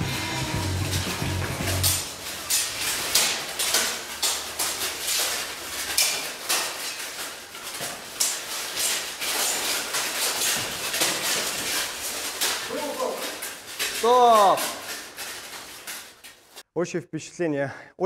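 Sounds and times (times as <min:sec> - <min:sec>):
armour plates rattling: 0:00.0 - 0:16.6
swords clashing on armour: 0:00.6 - 0:16.2.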